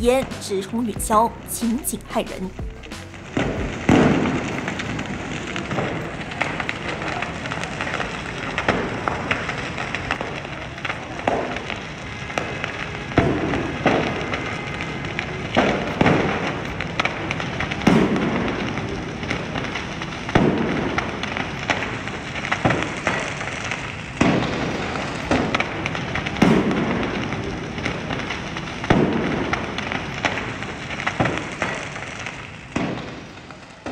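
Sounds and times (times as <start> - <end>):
fireworks crackling and popping: 0.0 - 33.9
loud firecracker bangs with echo: 0.0 - 33.9.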